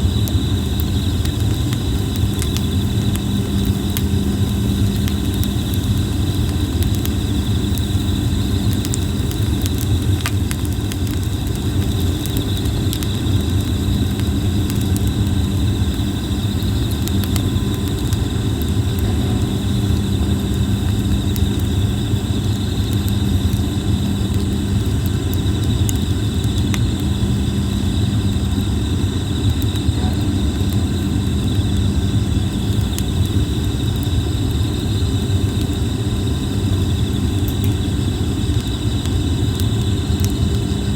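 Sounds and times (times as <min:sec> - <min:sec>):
insect chirring: 0:00.0 - 0:40.9
wood fire crackling: 0:00.0 - 0:40.9.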